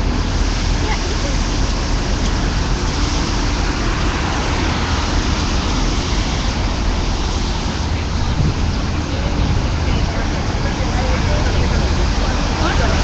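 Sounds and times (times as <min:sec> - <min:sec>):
street noise hiss: 0:00.0 - 0:13.0
vehicle engines rumbling: 0:00.0 - 0:13.0.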